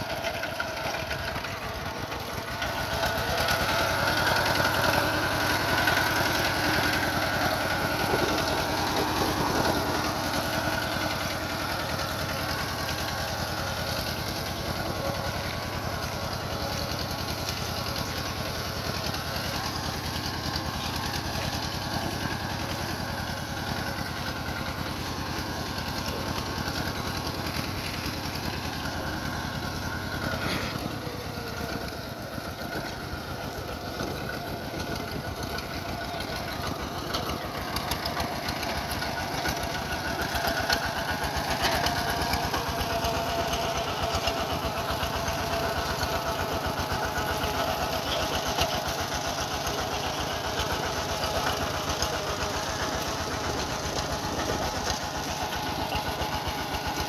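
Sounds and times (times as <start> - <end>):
diesel tractor engine chugging: 0.0 - 57.0.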